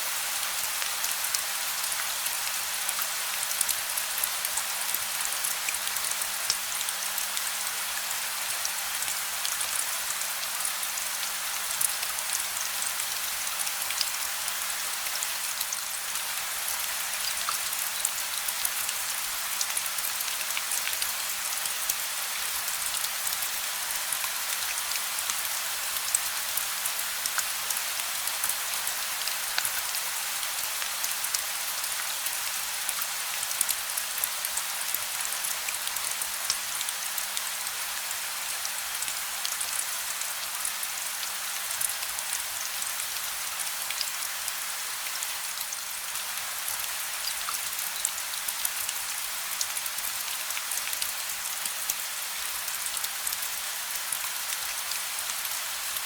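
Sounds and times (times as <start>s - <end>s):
gentle rain pattering: 0.0s - 56.0s.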